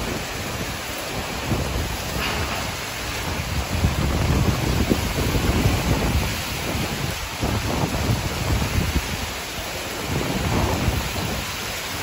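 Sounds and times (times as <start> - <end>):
rain hissing: 0.0 - 12.0
wind buffeting the microphone: 0.0 - 12.0
wind gusts tossing trees: 0.0 - 12.0.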